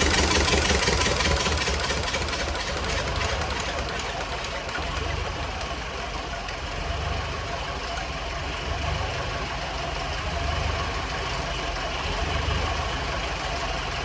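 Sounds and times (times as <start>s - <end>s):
baler engine idling: 0.0s - 14.0s.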